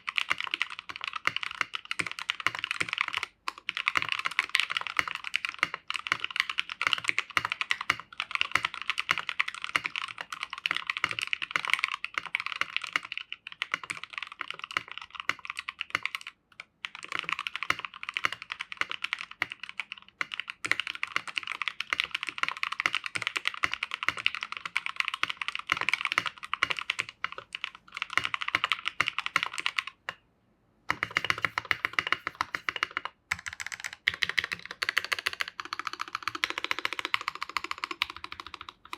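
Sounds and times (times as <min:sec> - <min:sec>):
fast mechanical keyboard typing: 0:00.0 - 0:30.2, 0:30.9 - 0:38.9.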